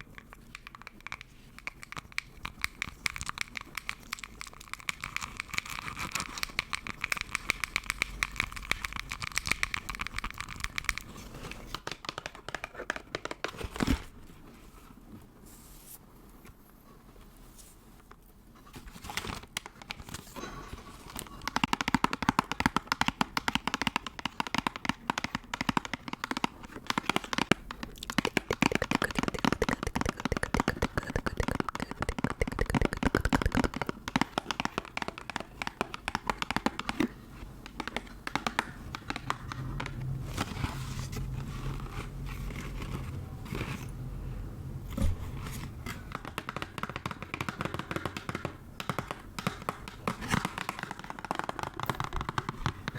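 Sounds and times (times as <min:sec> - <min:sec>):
rapid crinkling and crackling clicks: 0:00.0 - 0:14.0, 0:18.8 - 0:20.4, 0:21.1 - 0:43.7, 0:45.8 - 0:52.9.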